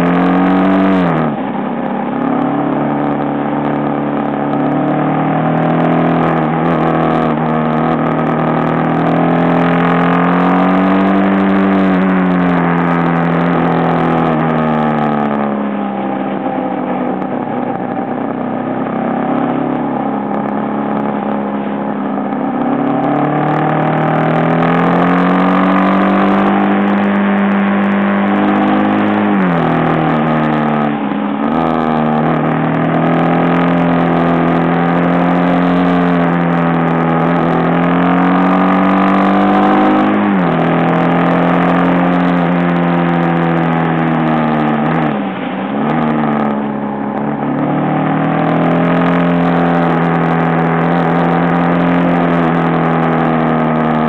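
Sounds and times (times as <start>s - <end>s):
motorcycle engine under way: 0.0s - 54.0s.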